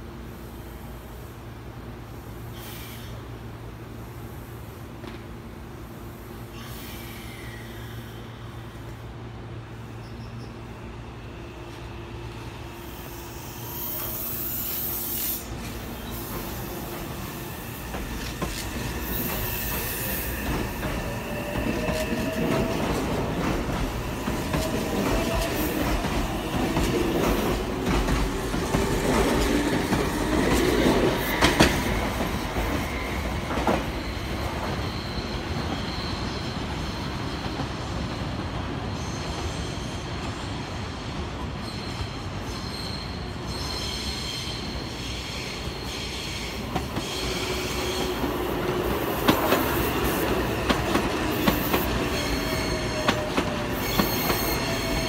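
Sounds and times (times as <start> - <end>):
train wheel noise: 4.3 - 55.0.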